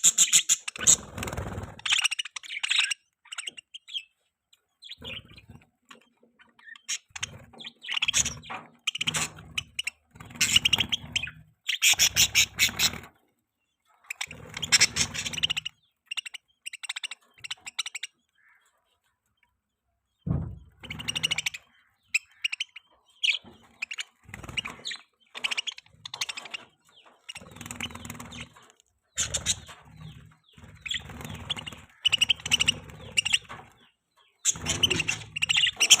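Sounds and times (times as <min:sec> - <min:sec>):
budgerigars chirping: 0:00.0 - 0:19.1, 0:20.5 - 0:36.0.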